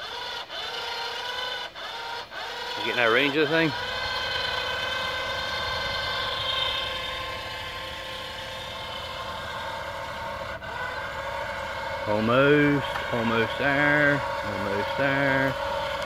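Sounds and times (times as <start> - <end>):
electric winch whining: 0.0 - 16.0.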